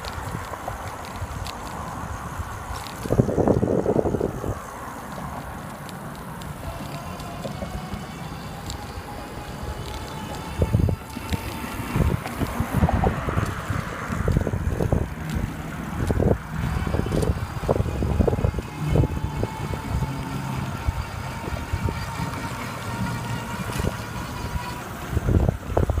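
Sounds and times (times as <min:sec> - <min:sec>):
faint steady whine: 0:00.0 - 0:26.0
wind buffeting microphone: 0:00.0 - 0:26.0.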